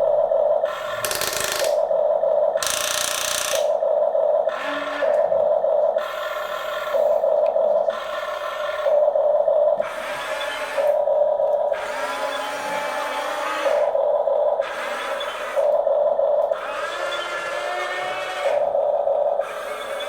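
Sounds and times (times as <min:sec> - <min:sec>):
toy excavator motors whirring: 0:00.6 - 0:01.9, 0:02.6 - 0:03.8, 0:04.4 - 0:20.0.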